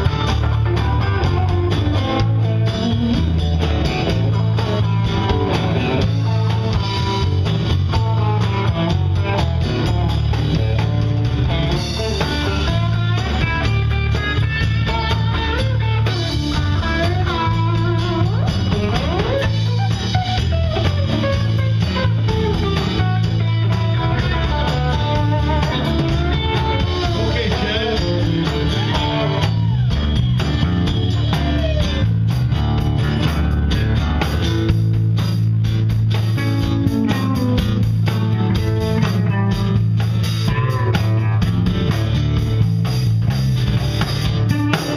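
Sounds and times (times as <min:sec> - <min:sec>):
blues band playing: 0:00.0 - 0:44.9.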